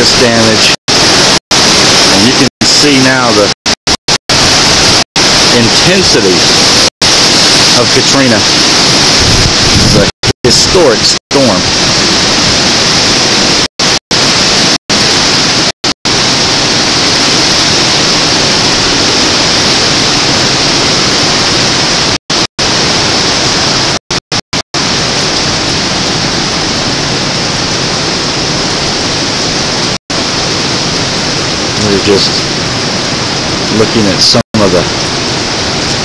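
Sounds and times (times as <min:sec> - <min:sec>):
driving rain: 0:00.0 - 0:36.0
hurricane wind: 0:00.0 - 0:36.0.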